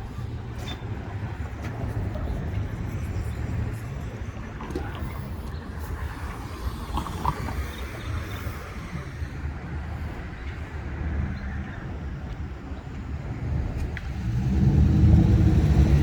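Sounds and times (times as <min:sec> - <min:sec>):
vehicle traffic rumble: 0:00.0 - 0:16.0.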